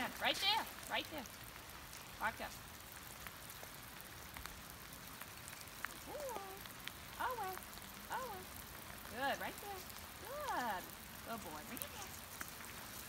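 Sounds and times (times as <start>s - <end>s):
light rain on wet ground: 0.0s - 13.0s.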